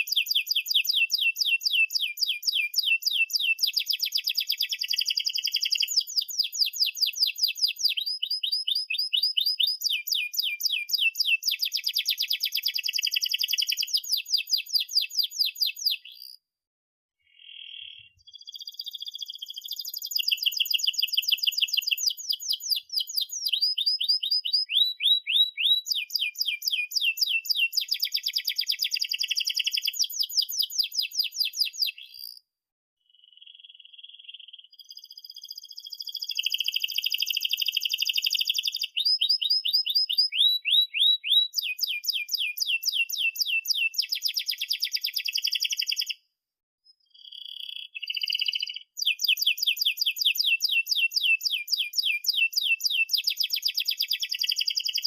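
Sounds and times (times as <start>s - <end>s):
canary singing rolling trills: 0.0s - 16.4s, 17.2s - 32.4s, 33.1s - 46.2s, 47.0s - 55.0s.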